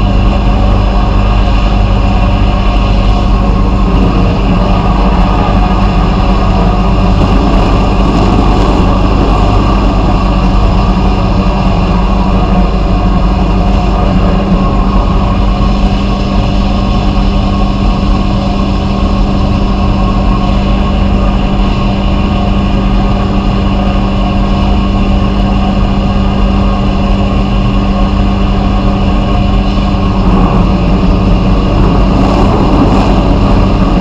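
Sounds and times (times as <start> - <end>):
machine humming and hissing: 0.0 - 34.0.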